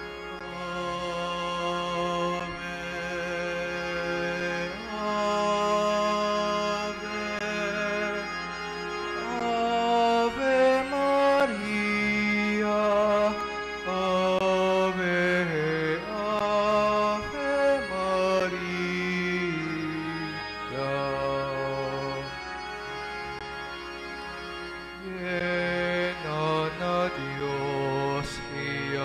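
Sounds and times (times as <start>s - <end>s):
slow hymn music: 0.0s - 29.0s.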